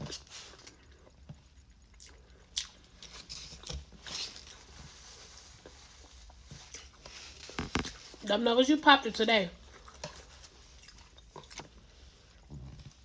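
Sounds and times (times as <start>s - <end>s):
person chewing food: 0.0s - 8.1s, 9.6s - 13.0s.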